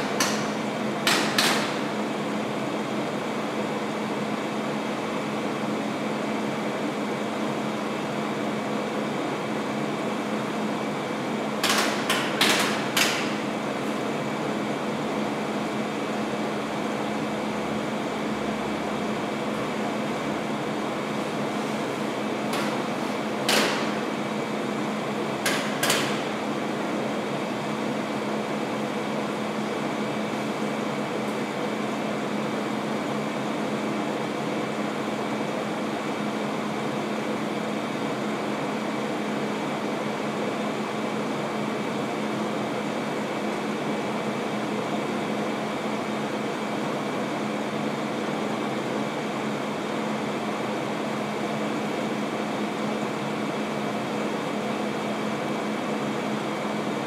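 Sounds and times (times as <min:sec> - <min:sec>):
air-conditioning hum and hiss: 0:00.0 - 0:57.0.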